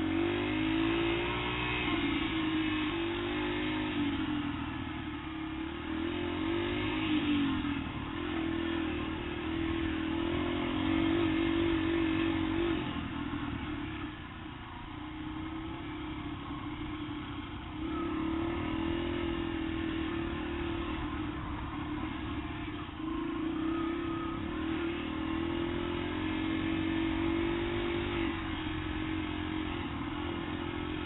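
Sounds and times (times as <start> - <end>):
dirt bike engine revving: 0.0 - 14.3, 15.2 - 31.0.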